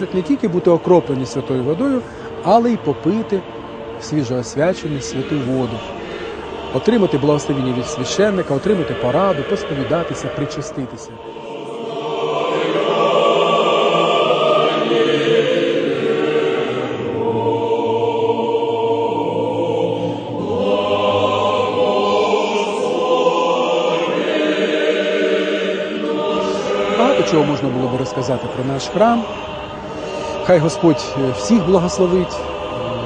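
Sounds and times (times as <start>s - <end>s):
church choir chanting: 0.0s - 33.0s.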